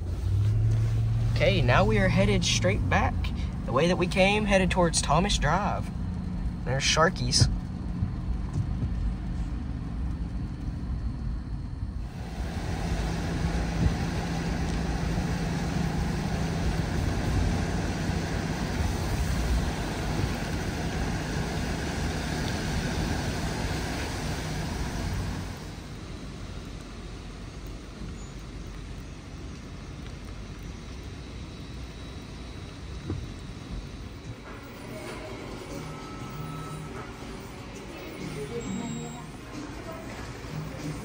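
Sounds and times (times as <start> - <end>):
road and engine rumble: 0.0 - 41.0.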